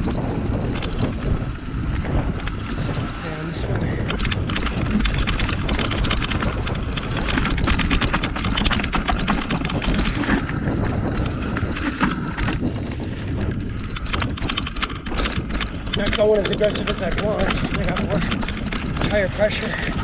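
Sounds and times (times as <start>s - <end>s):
bike rattling and clicking: 0.0s - 20.0s
bike tyres rolling on dirt: 0.0s - 20.0s
wind on microphone: 0.0s - 20.0s.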